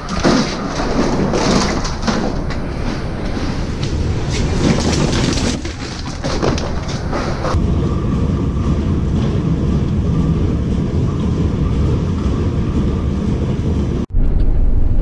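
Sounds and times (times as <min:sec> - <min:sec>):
industrial machinery rumble: 0:00.0 - 0:15.0.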